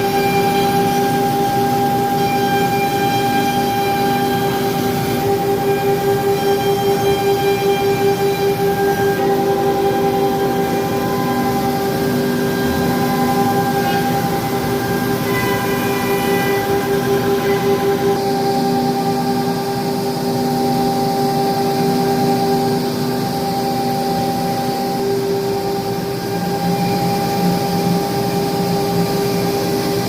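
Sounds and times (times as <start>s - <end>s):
cnc machine whining: 0.0s - 30.0s.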